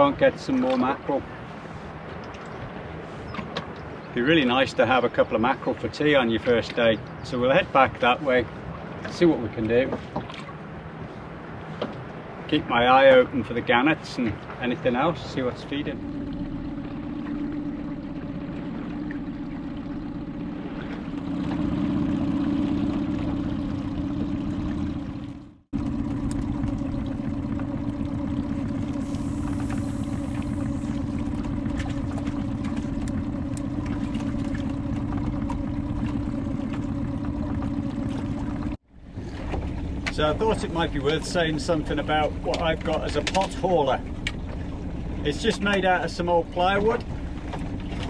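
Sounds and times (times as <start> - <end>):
outboard motor humming: 0.0 - 48.0.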